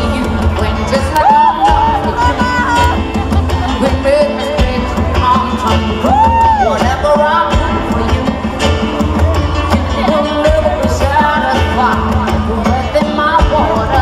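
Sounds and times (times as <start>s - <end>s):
live pop band playing: 0.0s - 14.0s
woman singing: 0.0s - 14.0s.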